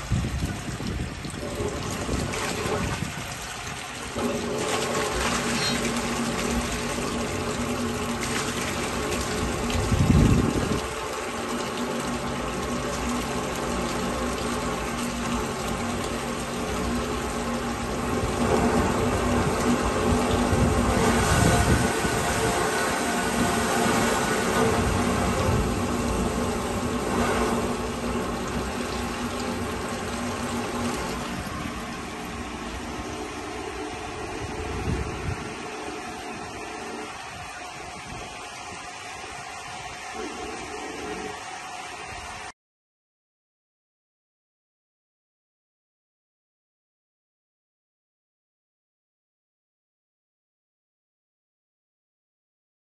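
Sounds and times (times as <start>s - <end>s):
wastewater pouring from pipe: 0.0s - 42.5s
water gushing into drain: 0.0s - 42.5s
steady machine hum: 0.0s - 42.6s.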